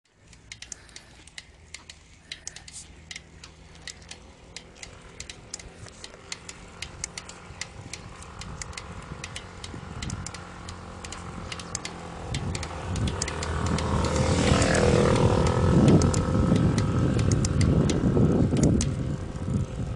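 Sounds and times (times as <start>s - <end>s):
bicycle pedal clicking: 0.1s - 19.9s.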